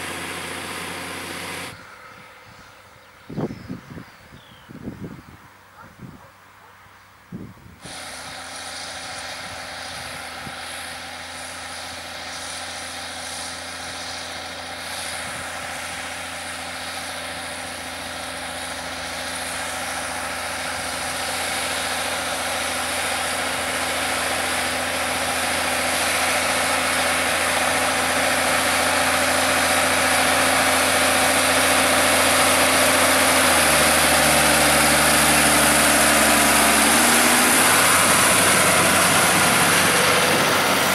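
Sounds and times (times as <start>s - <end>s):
tractor diesel engine under load: 0.0s - 5.0s, 7.4s - 40.9s.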